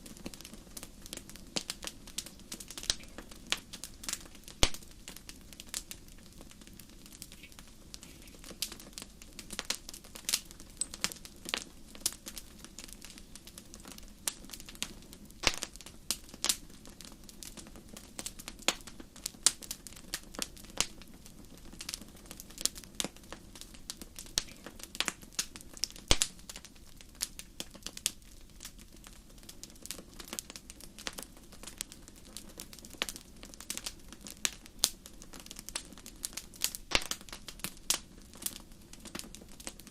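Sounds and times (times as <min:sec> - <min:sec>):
campfire crackling and popping: 0:00.0 - 0:39.9
low rush of flames: 0:00.0 - 0:39.9.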